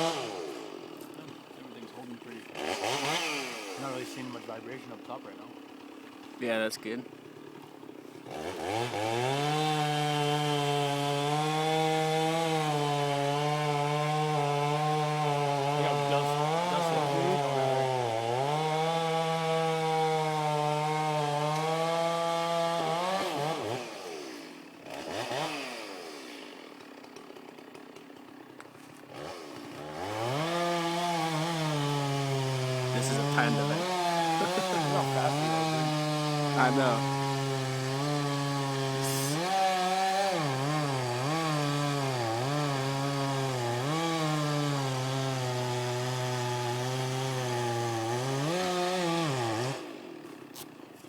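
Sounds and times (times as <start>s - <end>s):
chainsaw revving and cutting: 0.0s - 51.0s.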